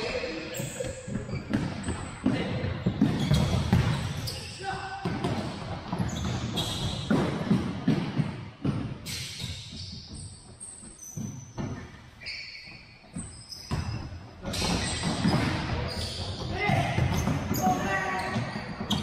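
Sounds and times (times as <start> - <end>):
sneaker squeaks: 0.0 - 19.0.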